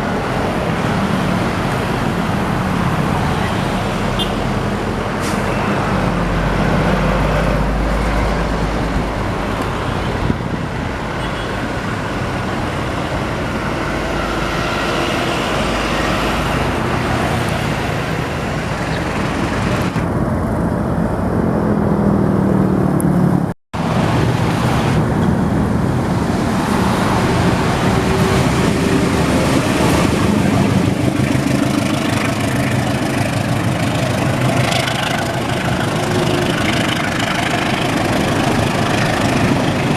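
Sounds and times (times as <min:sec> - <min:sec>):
vehicles passing: 0:00.0 - 0:39.9.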